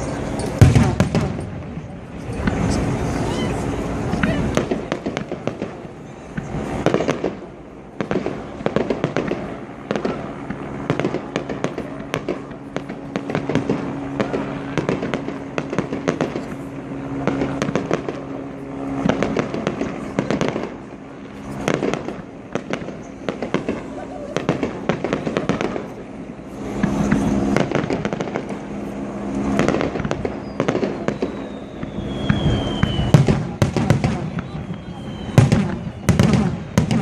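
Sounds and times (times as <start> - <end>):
fireworks bangs and crackles: 0.0 - 37.0
steady low hum: 0.0 - 37.0.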